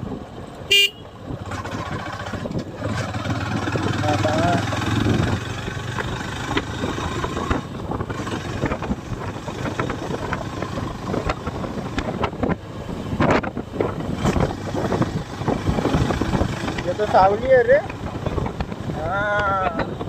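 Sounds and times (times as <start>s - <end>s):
motorcycle running: 0.0s - 20.0s
wind buffeting microphone: 0.0s - 20.0s.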